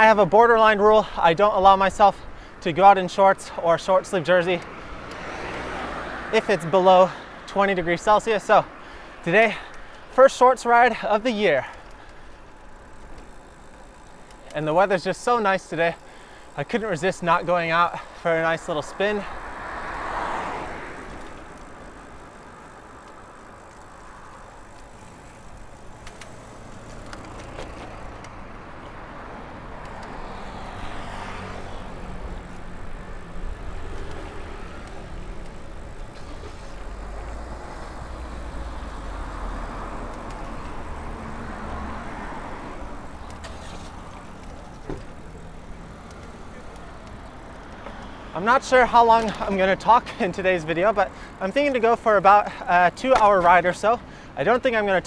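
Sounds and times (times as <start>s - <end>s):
motor vehicles passing: 0.0s - 55.0s
wind and tyre rumble: 0.0s - 55.0s.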